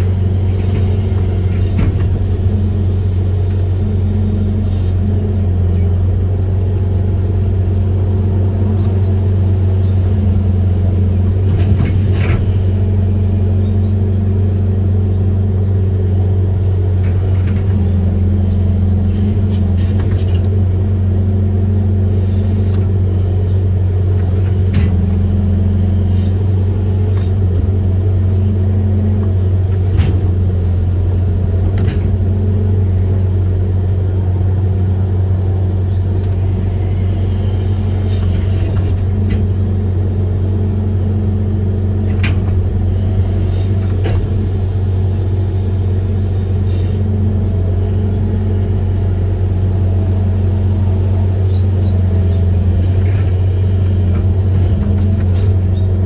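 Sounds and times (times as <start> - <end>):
diesel engine low rumble: 0.0 - 56.0.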